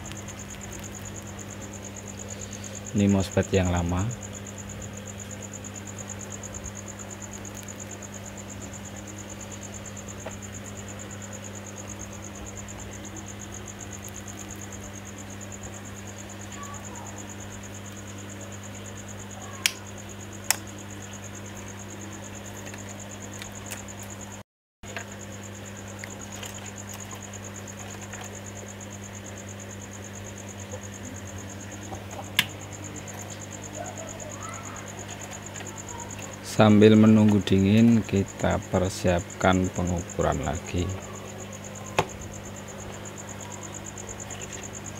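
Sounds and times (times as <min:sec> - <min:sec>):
low electrical hum: 0:00.0 - 0:44.9.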